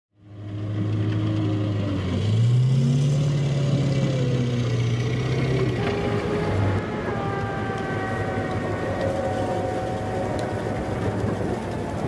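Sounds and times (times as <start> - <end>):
vehicle engine droning and revving: 0.2 - 12.0.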